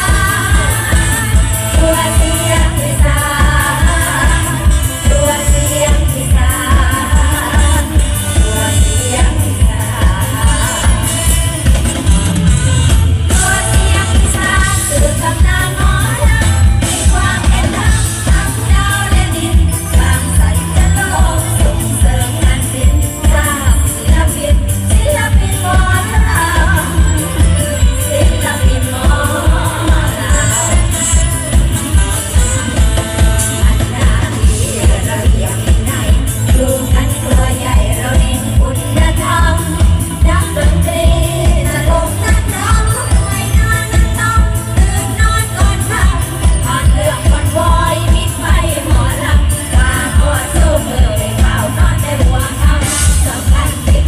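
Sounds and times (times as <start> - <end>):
singers over amplified band: 0.0 - 54.0.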